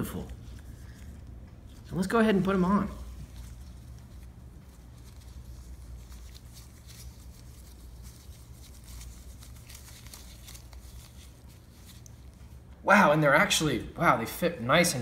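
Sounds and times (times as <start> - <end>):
steady low hum: 0.0 - 15.0
glove rustling: 0.1 - 12.8.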